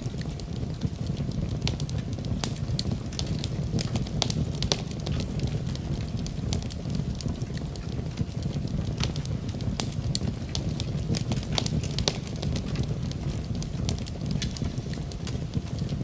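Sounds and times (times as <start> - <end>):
low rumble of burning logs: 0.0 - 16.0
wood fire crackling: 0.0 - 16.0.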